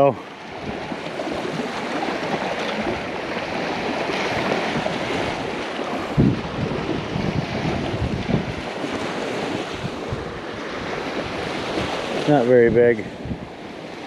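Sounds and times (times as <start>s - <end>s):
ocean surf washing on beach: 0.0s - 14.0s
wind buffeting microphone: 0.0s - 14.0s.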